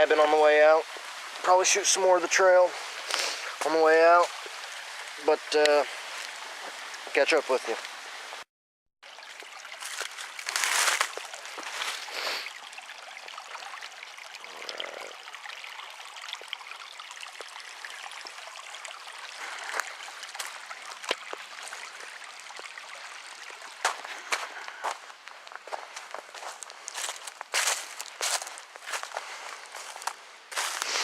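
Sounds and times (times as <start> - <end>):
creek trickling over rocks: 0.0 - 31.0.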